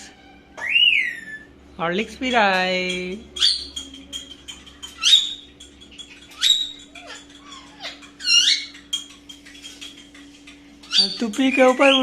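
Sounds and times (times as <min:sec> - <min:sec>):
faint parakeet squeaks: 0:00.0 - 0:01.5, 0:03.3 - 0:10.2, 0:10.8 - 0:12.0
parakeet high cries: 0:00.0 - 0:01.6, 0:03.3 - 0:12.0.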